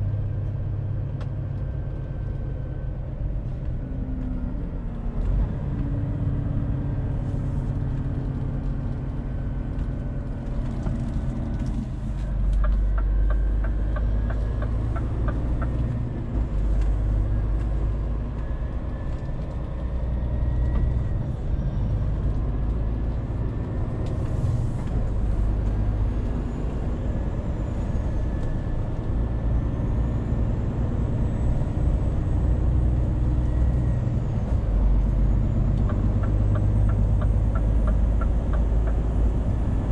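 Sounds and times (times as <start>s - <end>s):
road noise: 0.0s - 39.9s
truck diesel engine droning: 0.0s - 39.9s.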